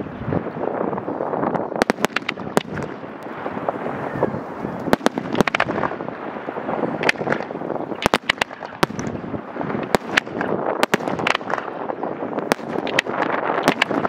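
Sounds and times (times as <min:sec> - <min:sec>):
fireworks bangs and cracks: 0:01.3 - 0:14.0.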